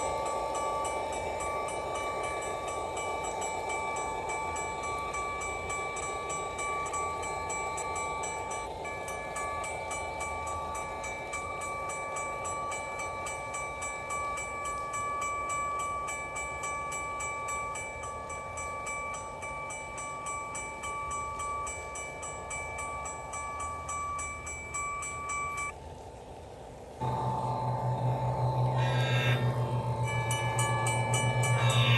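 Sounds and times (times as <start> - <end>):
railroad crossing bell dinging: 0.0 - 25.8, 27.0 - 31.9.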